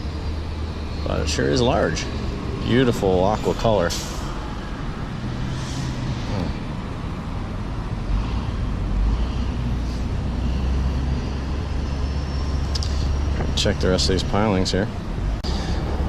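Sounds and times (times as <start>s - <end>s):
distant engine rumble: 0.0s - 16.0s.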